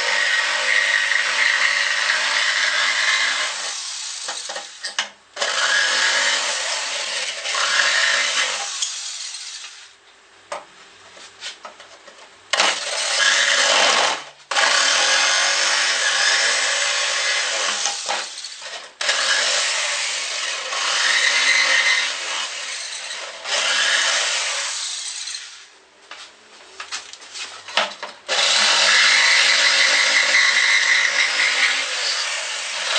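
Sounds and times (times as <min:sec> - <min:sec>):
saw cutting wood: 0:00.0 - 0:10.0, 0:12.5 - 0:25.7, 0:27.6 - 0:32.9.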